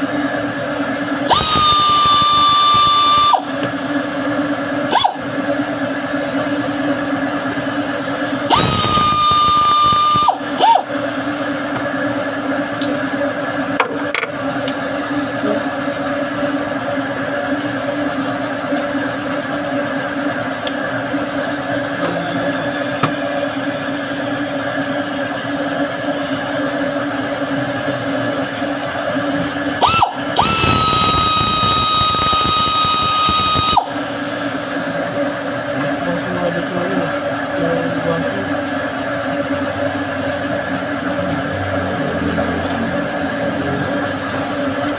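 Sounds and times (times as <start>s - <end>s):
steady mechanical hum: 0.0s - 44.9s
power tool whining: 0.1s - 16.5s, 17.8s - 44.9s.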